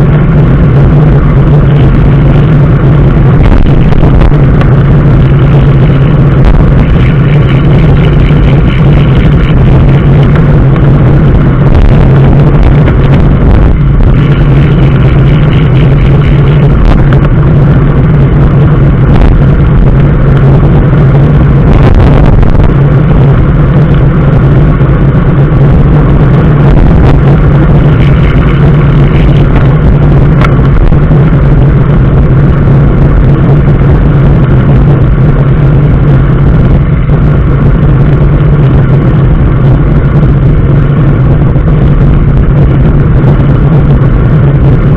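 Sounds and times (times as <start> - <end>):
road noise: 0.0 - 44.9
vehicle engine drone: 0.0 - 44.9.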